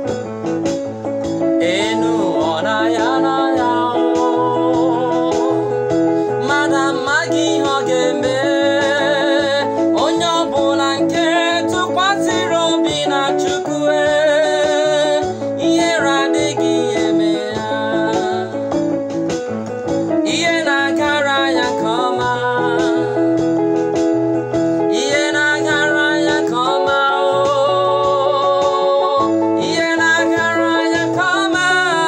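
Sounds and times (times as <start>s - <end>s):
instrumental backing of chords and bass: 0.0s - 32.0s
man singing with vibrato: 1.4s - 18.9s, 20.0s - 23.6s, 24.8s - 32.0s.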